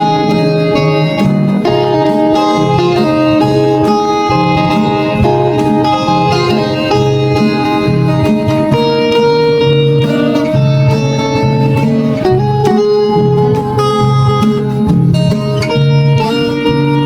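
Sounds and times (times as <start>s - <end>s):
plucked string instrumental music: 0.0s - 17.0s.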